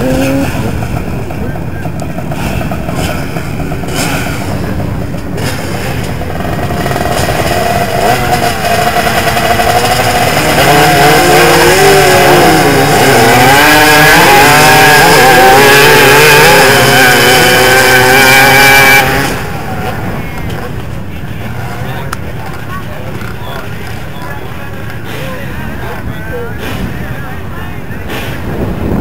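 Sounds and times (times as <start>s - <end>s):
atv engines revving and accelerating: 0.0s - 29.0s.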